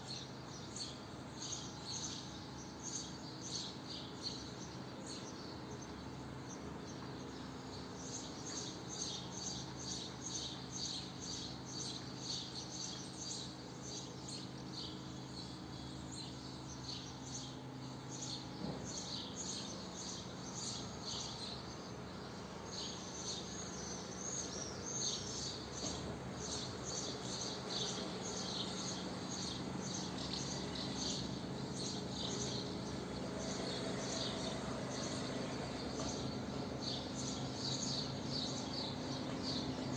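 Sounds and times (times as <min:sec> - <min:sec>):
swallows twittering: 0:00.0 - 0:39.9.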